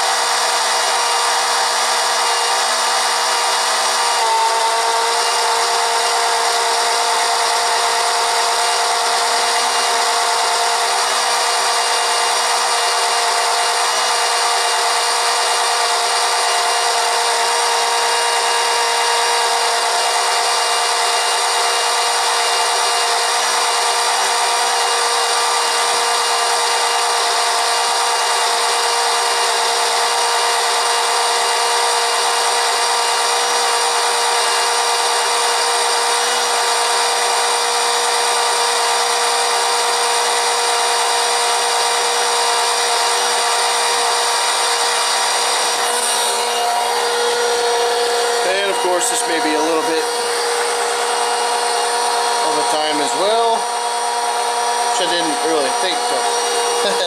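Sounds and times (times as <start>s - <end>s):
electric oil pump motor whine: 0.0s - 57.0s.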